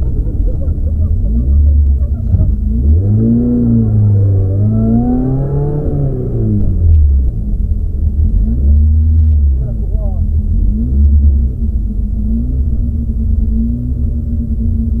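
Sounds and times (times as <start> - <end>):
car engine from inside cabin: 0.0 - 15.0.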